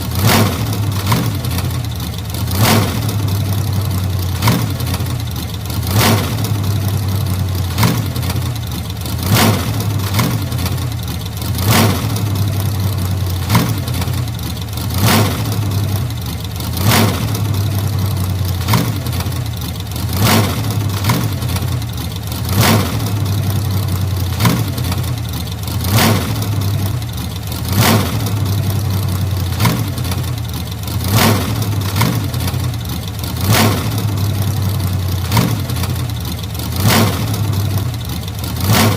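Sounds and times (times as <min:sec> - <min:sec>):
old car engine idling: 0:00.0 - 0:38.9.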